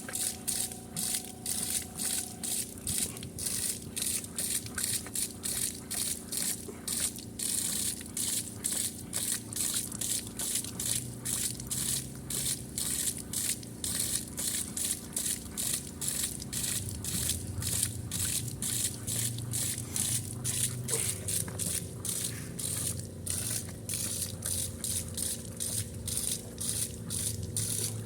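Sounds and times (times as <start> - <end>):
low mechanical hum: 0.0 - 28.0
rhythmic air hiss bursts: 0.0 - 28.0.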